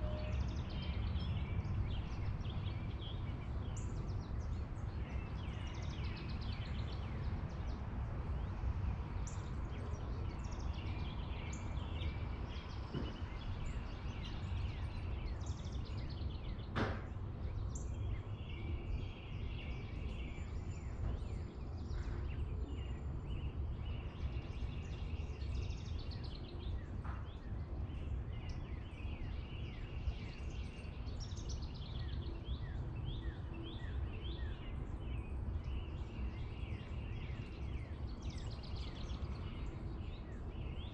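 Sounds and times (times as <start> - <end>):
small birds chirping and trilling: 0.0 - 40.9.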